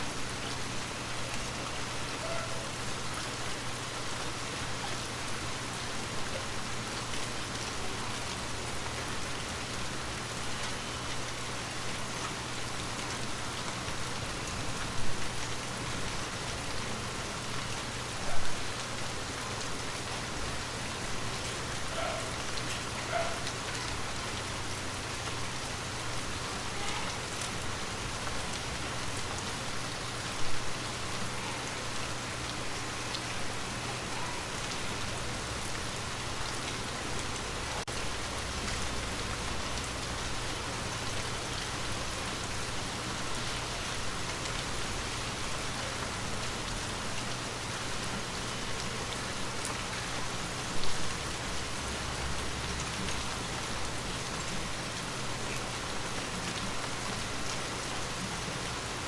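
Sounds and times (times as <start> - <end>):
rain falling on a window: 0.0 - 59.0.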